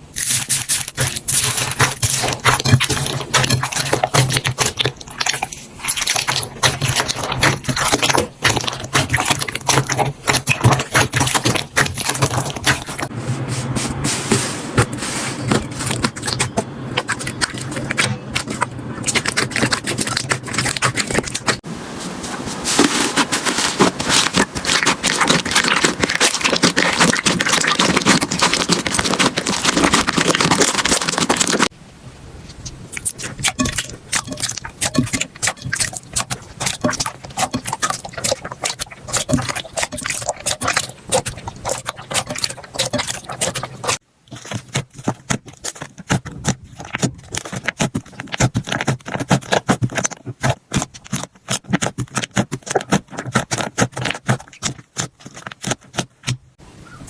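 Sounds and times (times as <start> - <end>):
slime crackling and popping: 0.1 - 13.1, 15.8 - 21.6, 22.7 - 31.7, 32.9 - 56.4.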